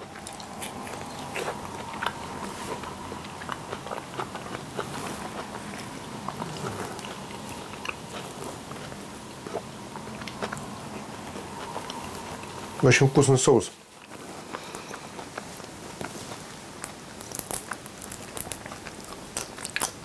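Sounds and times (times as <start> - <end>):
person chewing: 0.0 - 12.8, 13.8 - 20.0
faint steady hum: 0.0 - 20.0.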